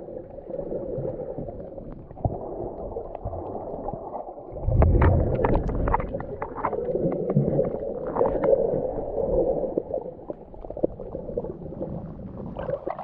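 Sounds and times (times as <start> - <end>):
muffled underwater rush: 0.0 - 13.0
underwater clicks and crackles: 0.0 - 13.0.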